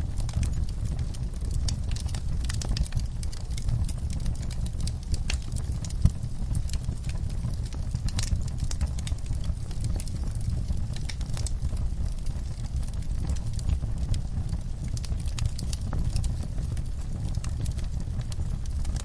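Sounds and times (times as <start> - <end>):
log fire crackling and popping: 0.0 - 19.0.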